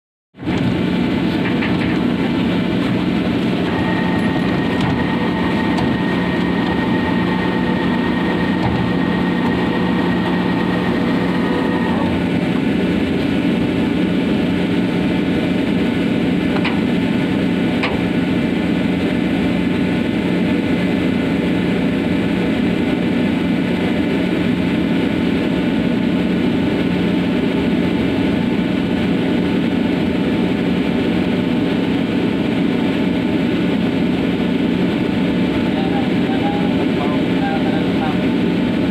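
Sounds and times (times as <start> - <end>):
ship engine drone: 0.4 - 38.9
winch whine: 0.4 - 38.9.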